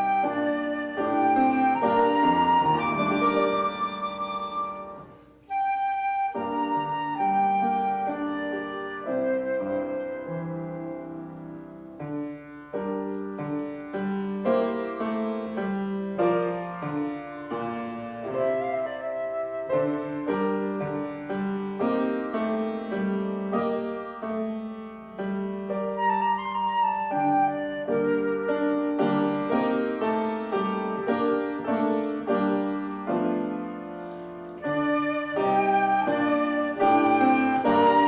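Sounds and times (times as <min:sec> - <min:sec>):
flute melody: 0:00.0 - 0:38.0
piano accompaniment: 0:00.0 - 0:38.0.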